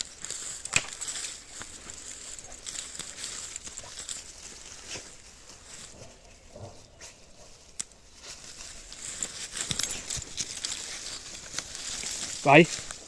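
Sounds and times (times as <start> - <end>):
dog digging in leaf litter: 0.0 - 13.0.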